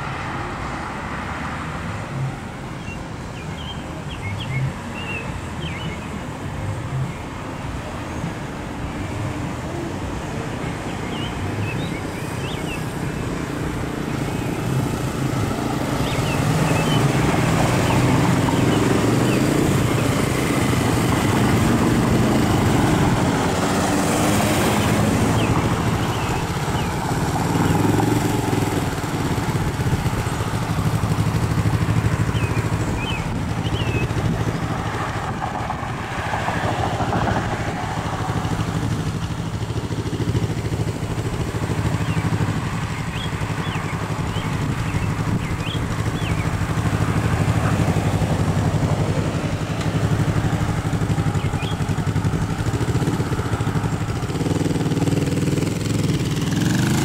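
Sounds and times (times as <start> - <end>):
car engines: 0.0 - 57.0.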